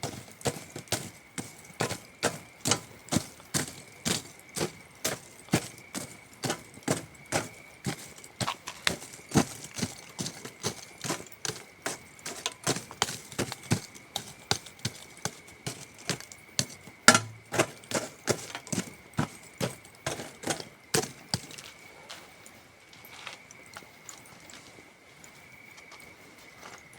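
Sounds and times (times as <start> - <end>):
crickets trilling: 0.0 - 26.9.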